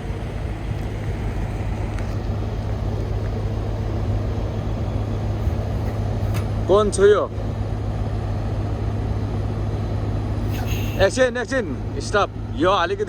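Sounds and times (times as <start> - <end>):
truck engine low hum: 0.0 - 13.0.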